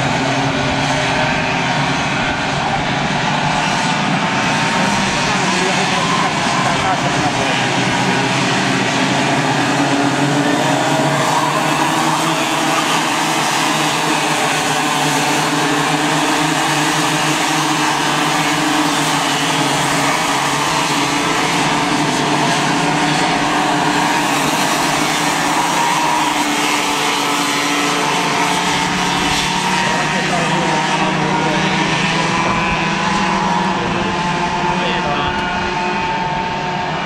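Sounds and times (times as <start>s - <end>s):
racing kart engines buzzing: 0.0s - 37.0s.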